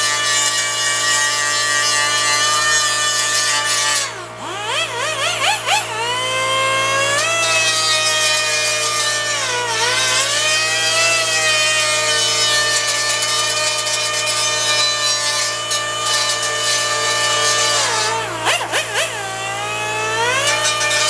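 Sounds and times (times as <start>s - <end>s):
pneumatic die grinder whining: 0.0s - 21.0s.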